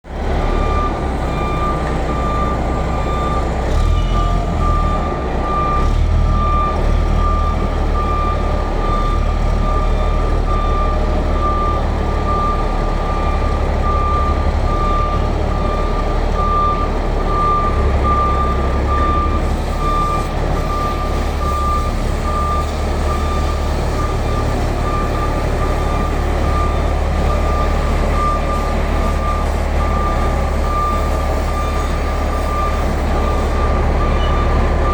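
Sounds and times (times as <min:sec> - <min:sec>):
diesel engine low rumble: 0:00.0 - 0:34.9
reversing alarm beeping: 0:00.3 - 0:34.9.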